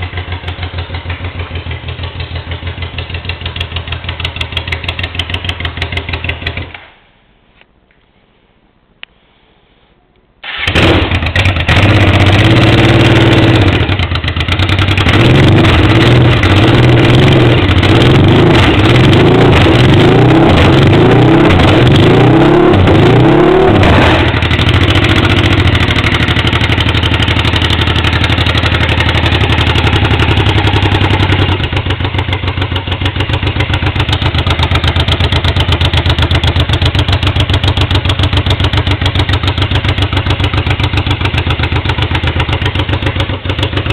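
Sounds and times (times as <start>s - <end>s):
motorcycle engine revving and idling: 0.0s - 6.9s, 10.5s - 43.9s.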